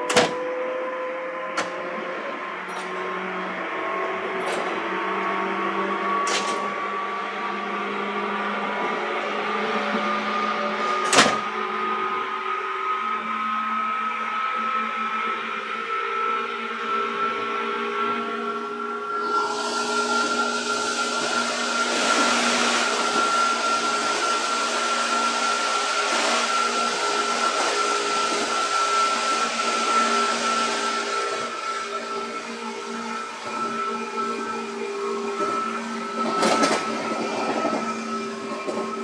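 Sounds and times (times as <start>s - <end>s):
electric train running noise: 0.0s - 39.0s
high motor whine: 0.0s - 39.0s.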